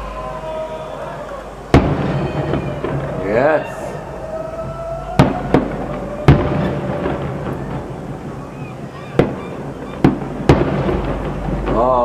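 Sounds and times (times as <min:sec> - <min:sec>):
firework bangs with echo: 0:01.7 - 0:12.0.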